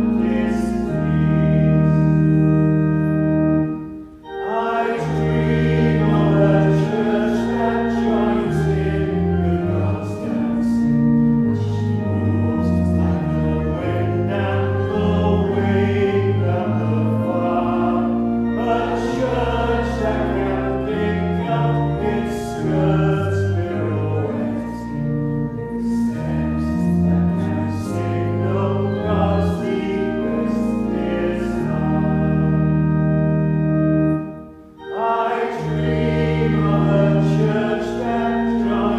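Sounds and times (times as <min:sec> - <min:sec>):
congregation singing a hymn: 0:00.0 - 0:38.9
organ sustained chords: 0:00.0 - 0:38.9.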